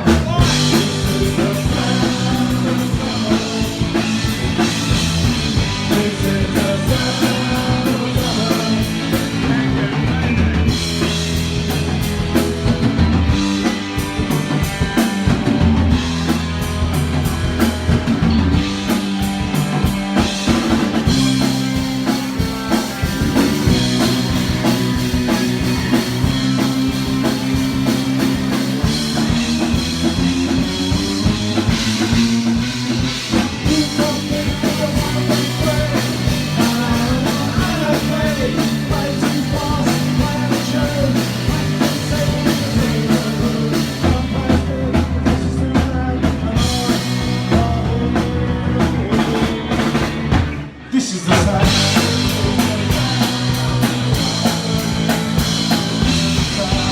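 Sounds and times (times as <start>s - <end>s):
drum kit beat: 0.0s - 50.7s, 51.3s - 56.9s
bass guitar: 0.0s - 56.9s
distorted electric guitars: 0.0s - 56.9s.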